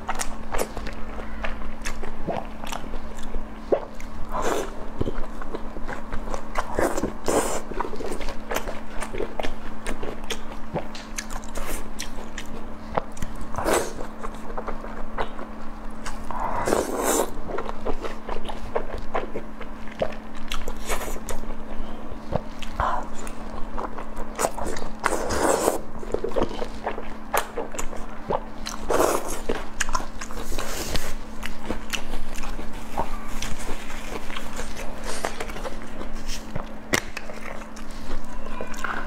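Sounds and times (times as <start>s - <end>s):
close-miked chewing and biting: 0.0s - 39.0s
steady low hum: 0.0s - 39.0s.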